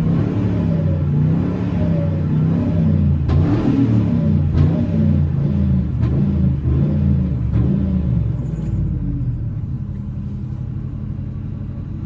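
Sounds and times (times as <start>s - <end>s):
engine revving and idling: 0.0s - 12.0s.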